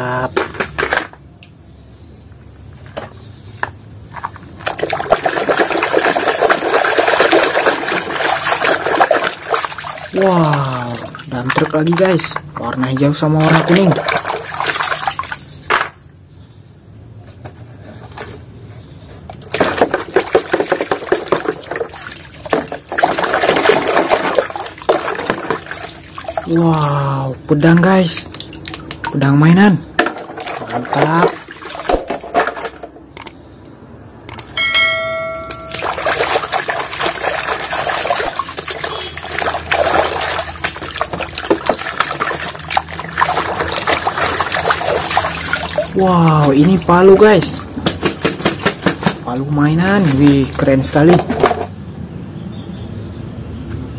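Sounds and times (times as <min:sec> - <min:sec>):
water sloshing and splashing: 0:02.8 - 0:16.2, 0:18.1 - 0:33.2, 0:34.9 - 0:51.8.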